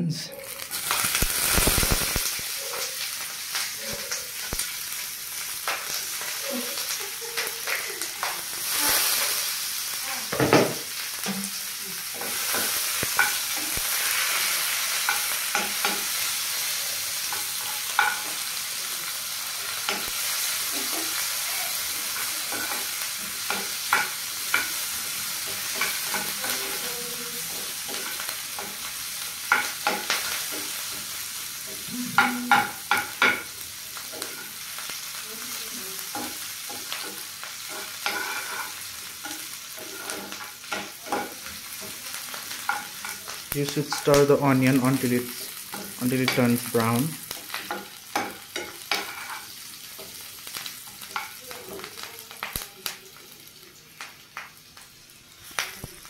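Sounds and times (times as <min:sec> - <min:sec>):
onions sizzling in oil: 0:00.0 - 0:56.0.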